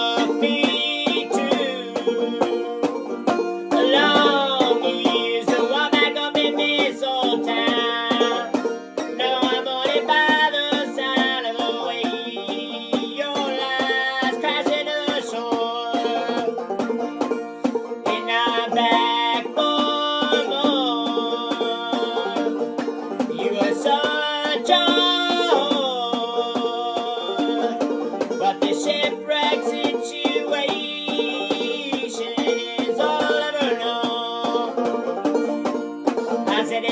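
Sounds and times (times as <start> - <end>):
banjo playing: 0.0 - 36.9.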